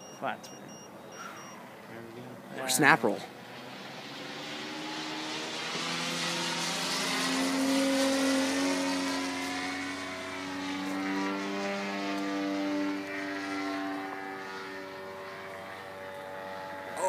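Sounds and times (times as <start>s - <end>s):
model plane engine in flight: 2.4s - 17.0s.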